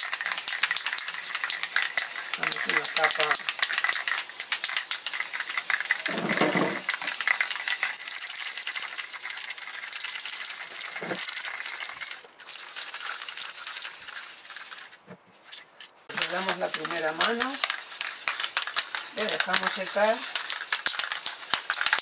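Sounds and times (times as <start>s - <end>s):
aerosol can spraying varnish: 0.0s - 15.0s, 16.1s - 22.0s.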